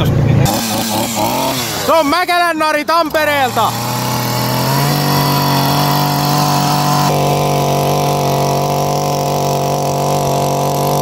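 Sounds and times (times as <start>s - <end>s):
chainsaw cutting into snow: 0.4s - 11.0s.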